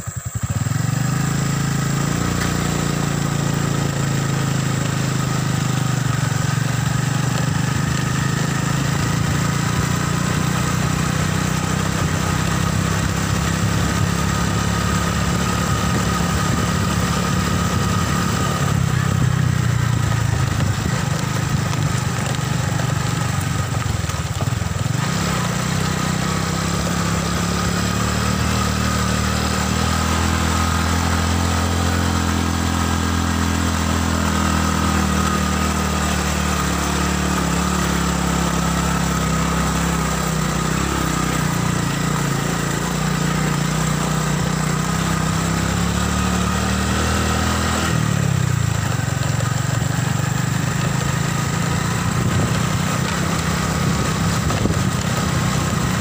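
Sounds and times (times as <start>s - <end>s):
small motorcycle engine: 0.0s - 56.0s.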